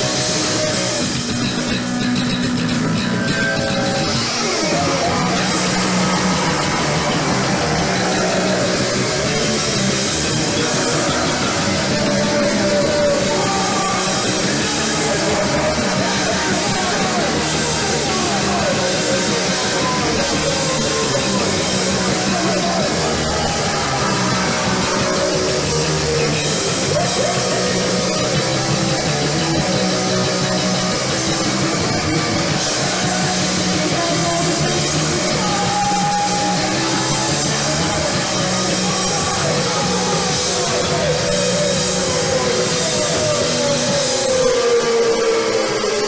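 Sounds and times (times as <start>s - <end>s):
bass guitar: 0.0s - 46.0s
drum kit: 0.0s - 46.0s
electric guitar: 0.0s - 46.0s.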